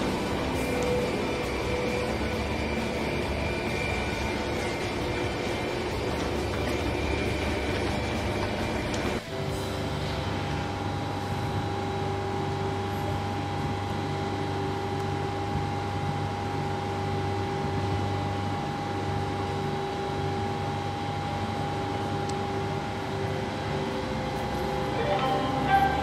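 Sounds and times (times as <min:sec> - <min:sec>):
electric train equipment humming: 0:00.0 - 0:26.0.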